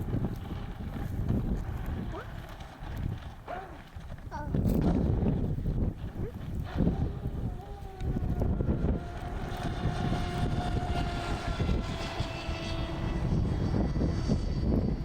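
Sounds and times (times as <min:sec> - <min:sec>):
electric motor whining: 0:00.0 - 0:15.0
wind buffeting microphone: 0:00.0 - 0:15.0.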